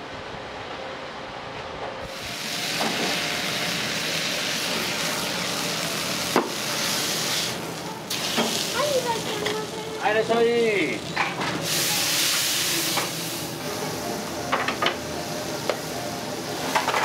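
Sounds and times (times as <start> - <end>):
food sizzling on a griddle: 2.0 - 17.0.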